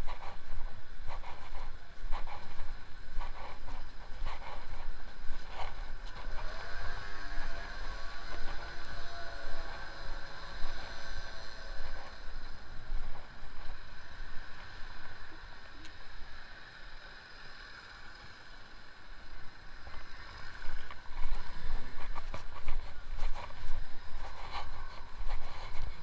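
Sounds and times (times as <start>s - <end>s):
wind on microphone: 0.0s - 15.5s, 19.3s - 26.0s
distant traffic: 0.0s - 26.0s.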